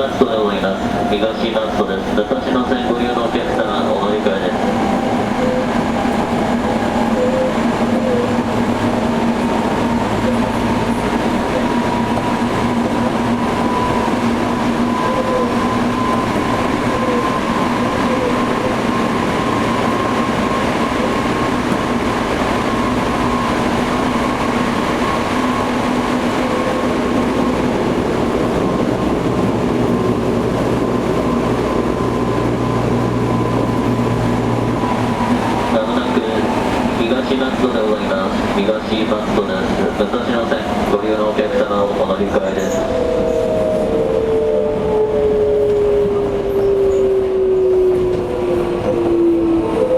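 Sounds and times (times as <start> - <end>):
train wheel and rail noise: 0.0 - 49.9.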